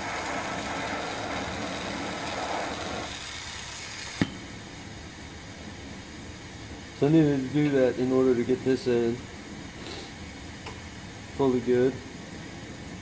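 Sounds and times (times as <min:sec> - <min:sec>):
torch burning with rushing noise: 0:00.0 - 0:13.0.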